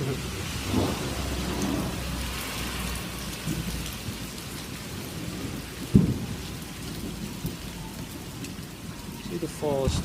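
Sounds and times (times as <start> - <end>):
thunder rumbling: 0.0 - 9.2
heavy rain pouring: 0.0 - 10.0.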